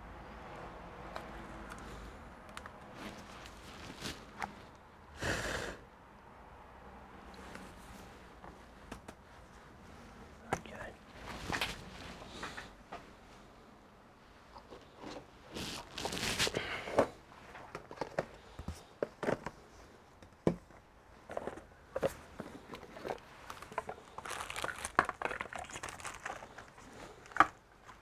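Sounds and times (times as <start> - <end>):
rustling and crinkling: 1.2 - 4.9, 7.4 - 13.6, 14.3 - 28.0.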